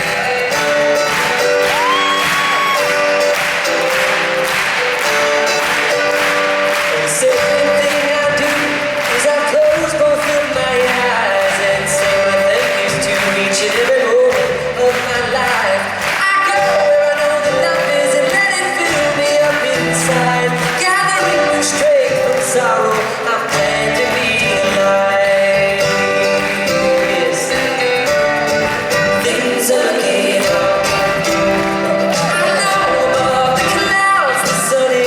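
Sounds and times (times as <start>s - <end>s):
people singing: 0.0s - 2.8s, 5.9s - 35.0s
live band playing pop song: 0.0s - 35.0s.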